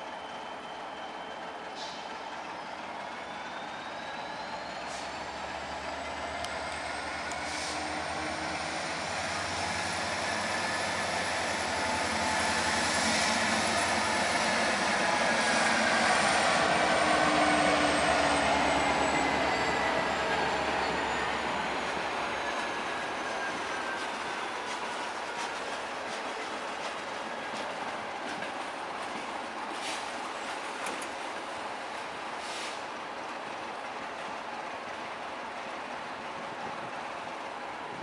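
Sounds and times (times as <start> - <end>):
diesel locomotive passing: 0.0 - 38.0.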